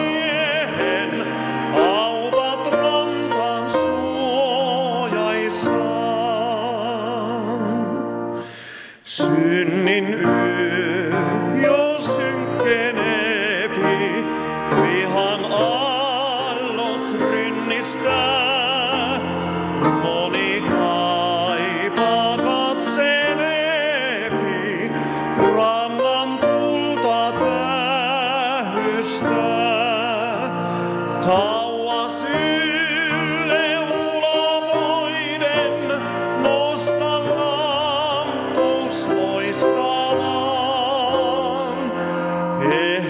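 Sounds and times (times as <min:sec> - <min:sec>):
grand piano: 0:00.0 - 0:43.0
man singing with vibrato: 0:00.0 - 0:43.0.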